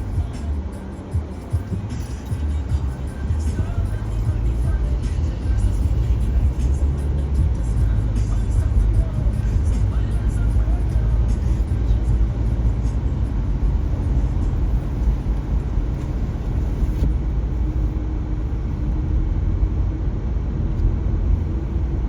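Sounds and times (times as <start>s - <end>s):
car road and engine rumble: 0.0s - 22.0s
faint steady hum: 0.0s - 22.0s.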